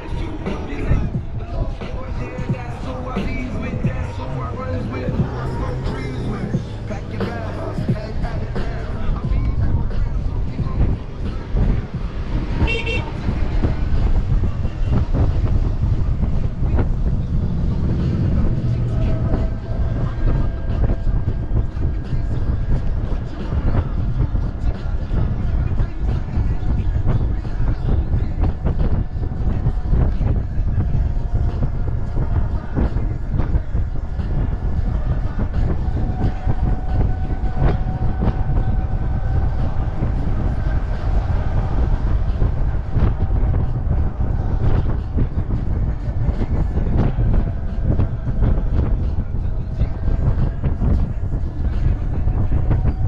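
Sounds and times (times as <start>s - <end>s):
low vehicle rumble: 0.0s - 53.0s
steady whine: 0.0s - 53.0s.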